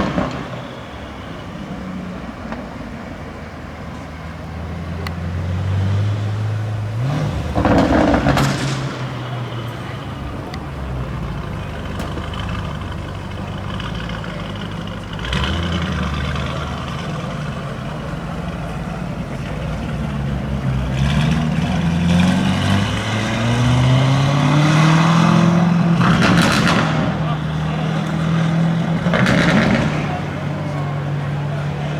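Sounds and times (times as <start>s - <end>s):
sharp exhaust crackles: 0.0s - 3.5s, 4.1s - 31.9s
car engine revving: 0.0s - 31.9s.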